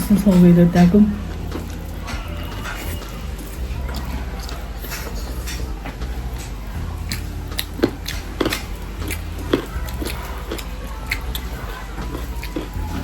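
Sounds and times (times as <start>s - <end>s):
low hum: 0.0s - 13.0s
wet chewing smacks: 1.2s - 13.0s.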